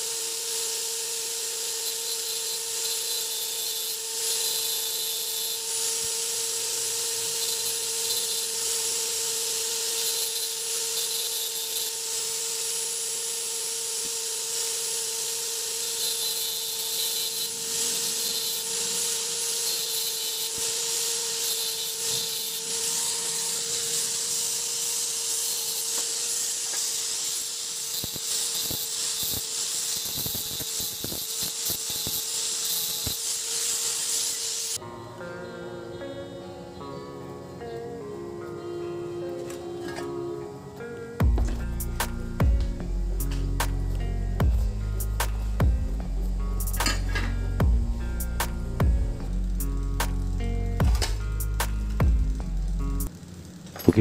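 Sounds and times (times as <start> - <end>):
angle grinder grinding steel: 0.0 - 54.0.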